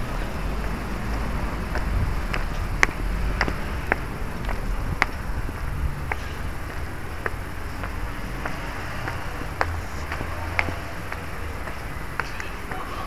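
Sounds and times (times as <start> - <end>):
low rumble: 0.0 - 12.2
footsteps on stone stairs: 0.0 - 13.0.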